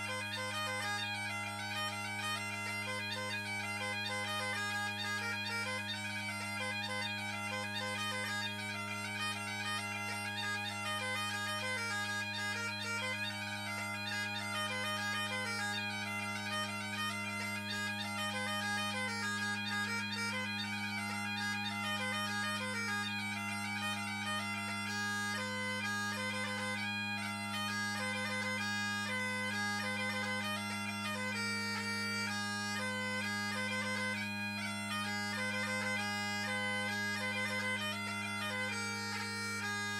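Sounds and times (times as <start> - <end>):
bagpipe melody over drones: 0.0 - 39.9.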